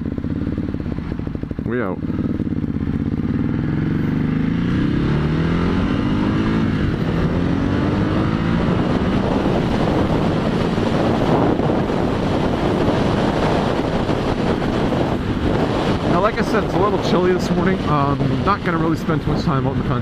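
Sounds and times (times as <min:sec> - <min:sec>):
motorcycle engine accelerating: 0:00.0 - 0:20.0
wind rushing over microphone: 0:00.0 - 0:20.0.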